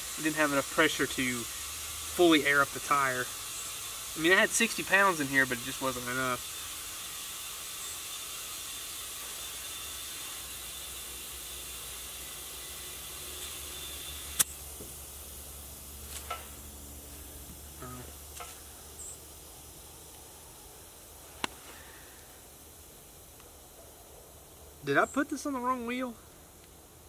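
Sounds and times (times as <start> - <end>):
compressed air hissing: 0.0 - 23.8.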